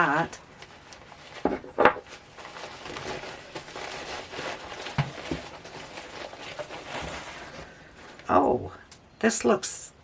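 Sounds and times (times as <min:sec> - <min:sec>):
packing wrap rustling: 0:00.0 - 0:08.4.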